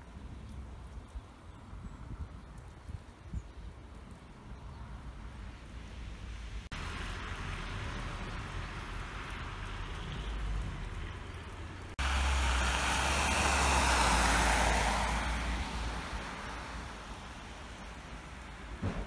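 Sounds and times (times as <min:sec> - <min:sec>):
street hiss and low rumble: 0:00.0 - 0:19.0.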